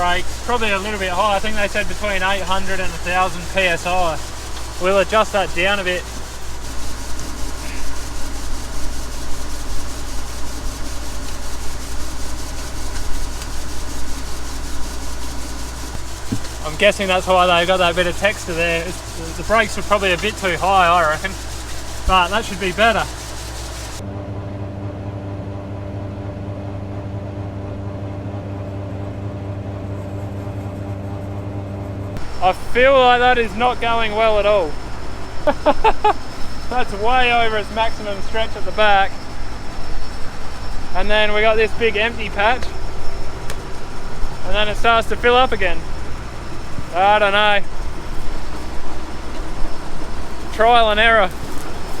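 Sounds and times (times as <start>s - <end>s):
grain bagger rushing noise: 0.0s - 24.8s, 32.2s - 52.0s
tractor engine drone: 0.0s - 52.0s.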